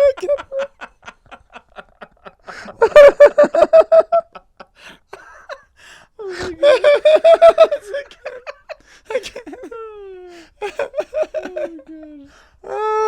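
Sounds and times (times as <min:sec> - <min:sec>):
person laughing hard: 0:00.0 - 0:05.7, 0:06.3 - 0:12.3.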